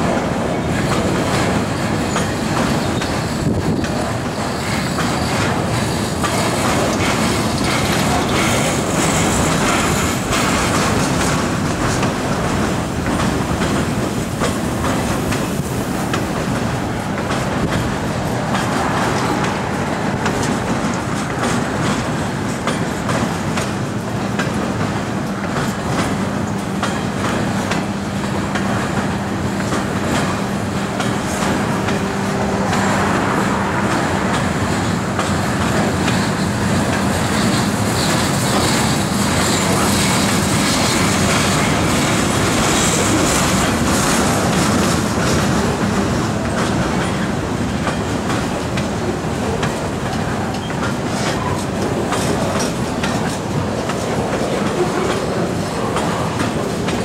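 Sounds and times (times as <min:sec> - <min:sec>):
wheels clicking over rail joints: 0:00.0 - 0:32.0, 0:33.7 - 0:57.0
wheels rumbling on rail: 0:00.0 - 0:57.0.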